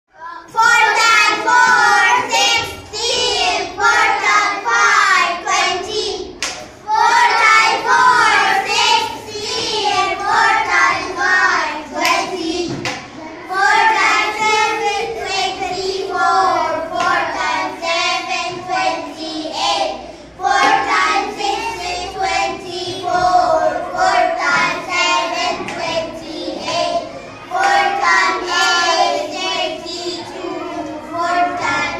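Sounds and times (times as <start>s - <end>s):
girls singing in unison: 0.2s - 31.9s.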